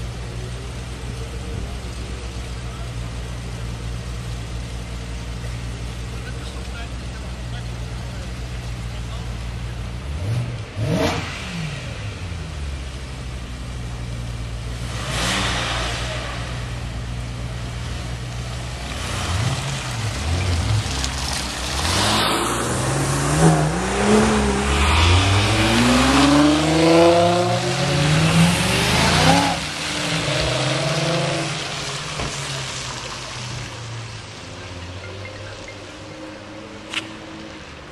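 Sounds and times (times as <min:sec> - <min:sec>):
sports car engine revving: 0:00.0 - 0:37.5.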